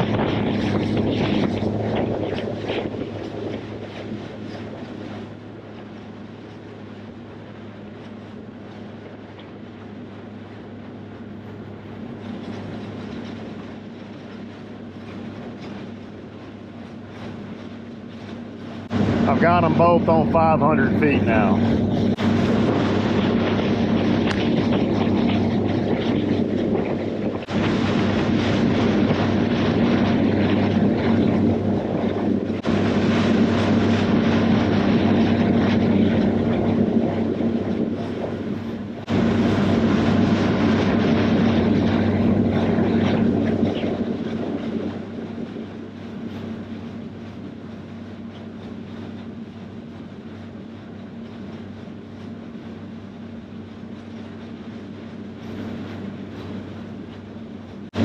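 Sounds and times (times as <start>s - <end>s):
outboard motor running: 0.0s - 58.0s
wind and water rushing: 0.0s - 58.0s.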